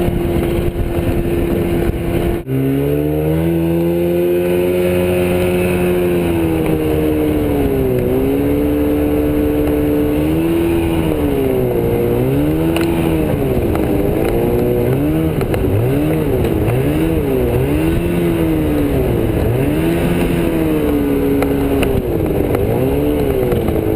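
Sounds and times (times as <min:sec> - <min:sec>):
outboard engine revving: 0:00.0 - 0:23.9.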